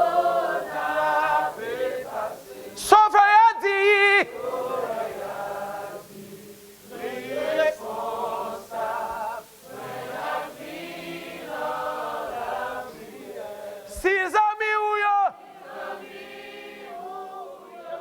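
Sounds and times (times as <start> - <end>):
congregation singing a hymn: 0.0 - 18.0.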